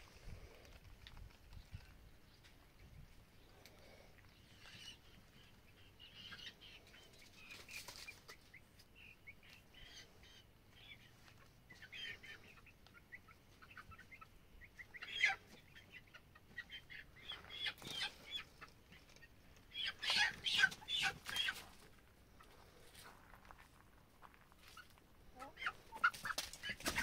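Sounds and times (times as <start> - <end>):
chickens clucking and chirping: 0.0 - 27.0.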